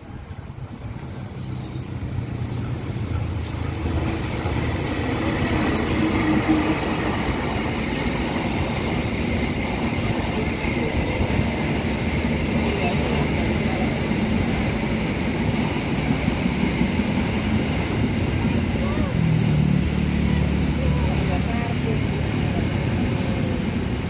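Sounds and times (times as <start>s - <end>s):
diesel locomotive engine drone: 0.0s - 24.0s
train coaches rolling by: 0.0s - 24.0s
wheels clicking on rails: 0.0s - 24.0s.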